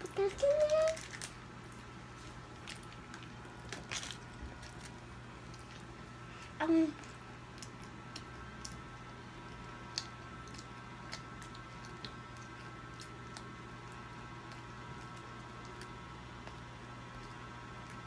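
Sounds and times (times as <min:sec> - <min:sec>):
child chewing pizza: 0:00.0 - 0:18.0.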